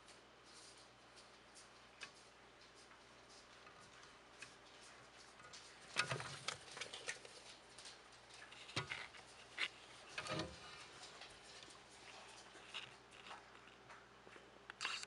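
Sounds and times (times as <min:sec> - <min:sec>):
faint rustles and scrapes: 0:00.0 - 0:15.0.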